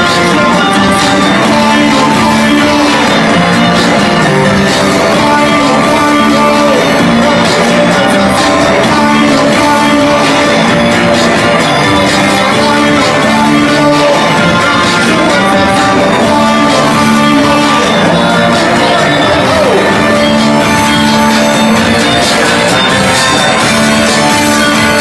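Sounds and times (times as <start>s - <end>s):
live band playing dance song: 0.0s - 25.0s.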